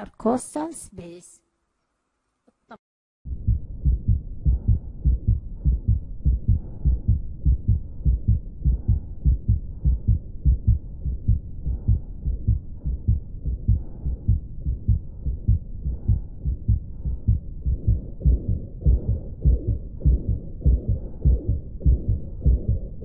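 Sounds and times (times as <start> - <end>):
fast heartbeat: 3.3 - 23.0
heart murmur: 3.4 - 23.0.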